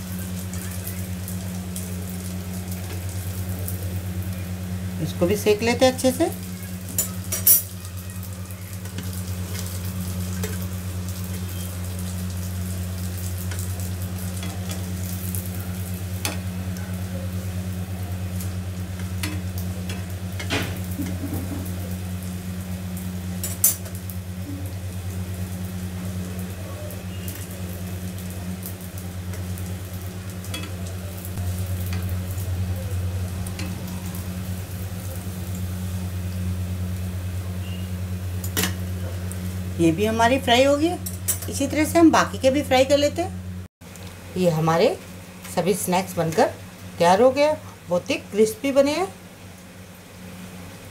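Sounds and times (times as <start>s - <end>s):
oil sizzling: 0.0s - 50.9s.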